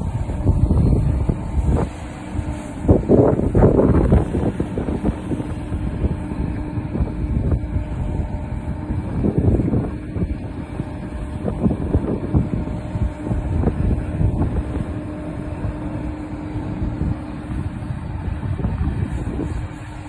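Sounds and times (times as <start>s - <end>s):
steady engine hum: 0.0s - 20.0s
wind buffeting microphone: 0.0s - 20.0s.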